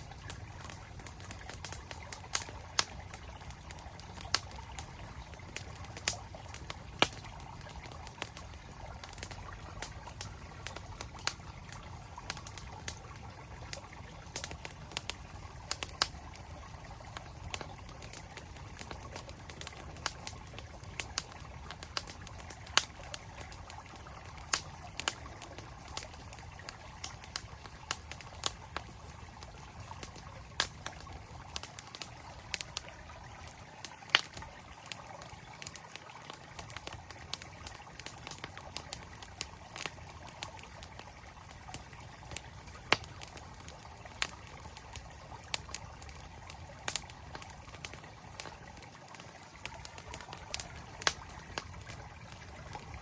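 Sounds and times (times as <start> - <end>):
campfire crackling and popping: 0.0 - 53.0
flowing mountain stream: 0.0 - 53.0.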